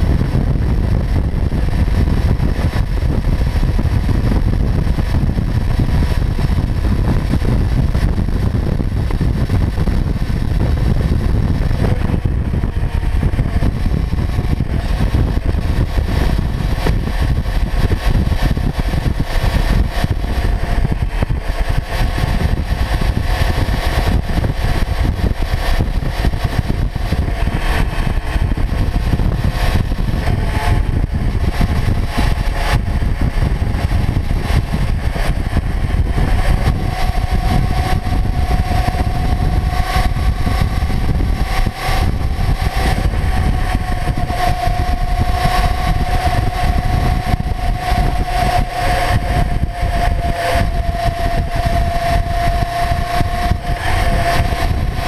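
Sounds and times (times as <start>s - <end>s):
motorcycle engine running: 0.0s - 55.0s
road noise: 0.0s - 55.0s
wind rumble on microphone: 0.0s - 55.0s.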